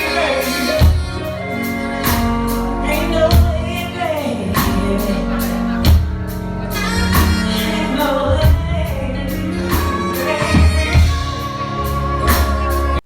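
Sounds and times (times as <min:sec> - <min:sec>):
bass line: 0:00.0 - 0:13.0
live band playing: 0:00.0 - 0:13.0
person singing: 0:00.0 - 0:13.0.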